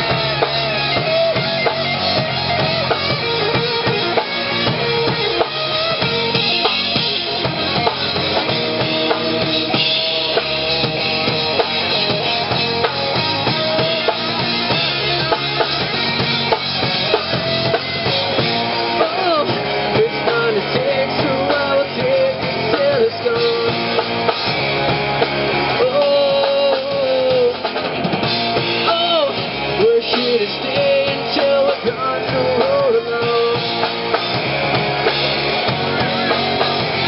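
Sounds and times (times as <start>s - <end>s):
bass guitar: 0.0s - 37.0s
drum kit: 0.0s - 37.0s
electric guitars: 0.0s - 37.0s.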